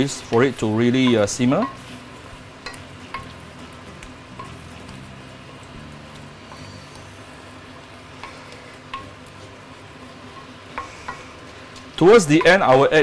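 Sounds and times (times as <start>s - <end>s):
sauce sizzling: 0.0s - 13.0s.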